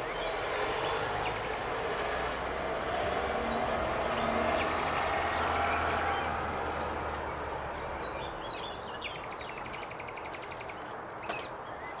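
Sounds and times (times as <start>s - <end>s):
birds calling: 0.0s - 1.9s, 3.3s - 12.0s
outdoor background noise: 0.0s - 12.0s.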